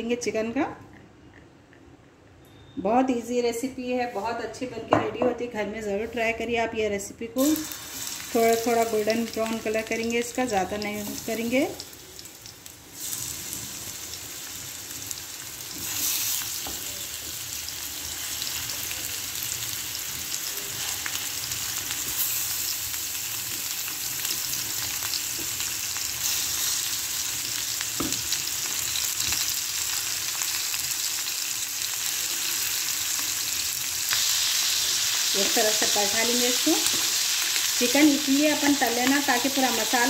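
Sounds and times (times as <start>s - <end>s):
chicken sizzling in a frying pan: 7.4s - 40.0s.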